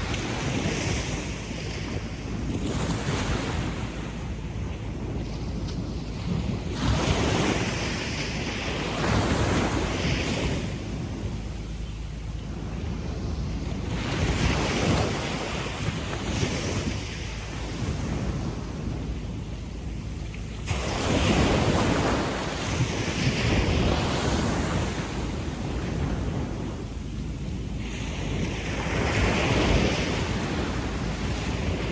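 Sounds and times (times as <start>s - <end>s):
waves washing up a beach: 0.0s - 31.9s.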